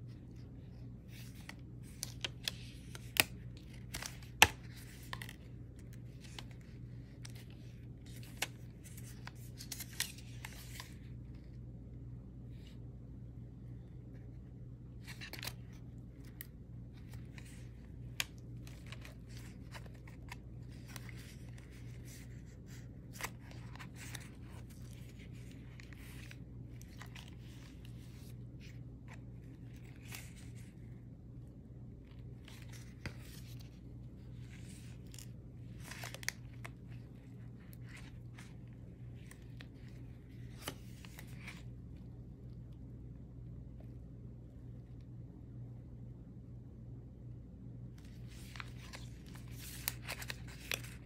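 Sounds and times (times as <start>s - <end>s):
paper pages rustling: 0.0s - 11.6s, 13.8s - 31.0s, 31.9s - 42.1s, 48.0s - 51.0s.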